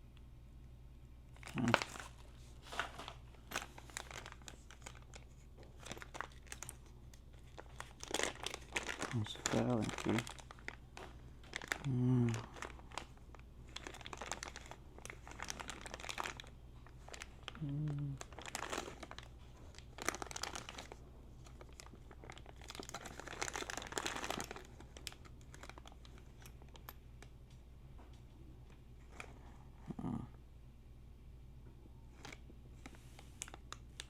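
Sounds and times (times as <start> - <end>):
crinkling and rustling: 1.3 - 29.9, 32.1 - 34.0.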